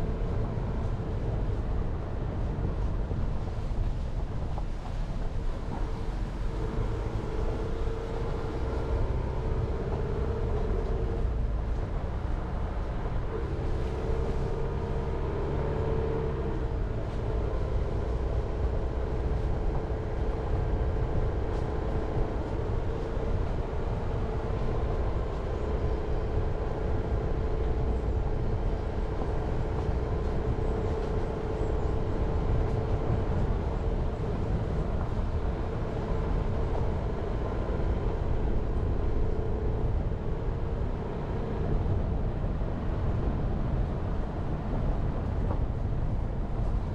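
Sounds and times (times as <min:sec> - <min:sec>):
car engine drone: 0:00.0 - 0:46.9
tyre and road rumble: 0:00.0 - 0:46.9.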